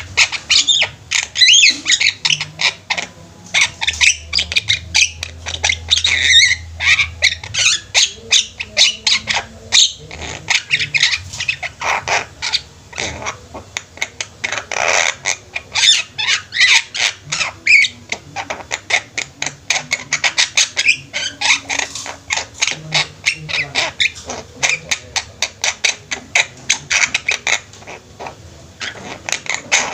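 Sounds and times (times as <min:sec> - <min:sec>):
mynas squawking and whistling: 0:00.0 - 0:29.9.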